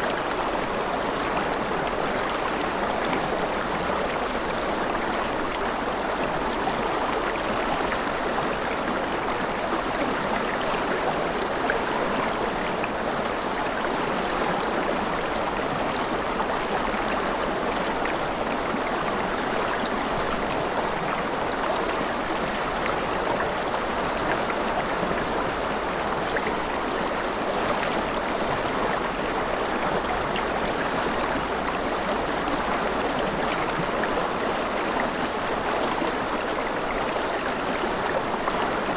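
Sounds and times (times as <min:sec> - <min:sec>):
river water flowing and splashing: 0:00.0 - 0:38.9.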